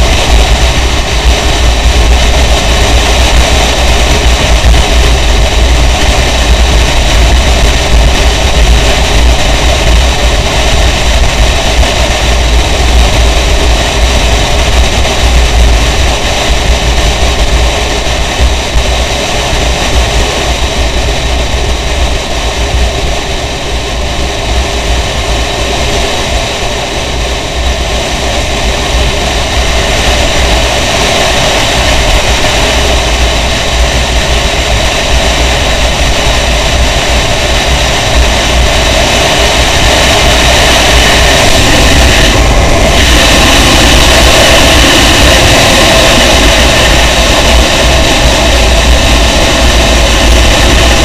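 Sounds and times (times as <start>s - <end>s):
motorcycle engine and road noise: 0.0s - 51.0s
wind buffeting microphone: 0.0s - 51.0s.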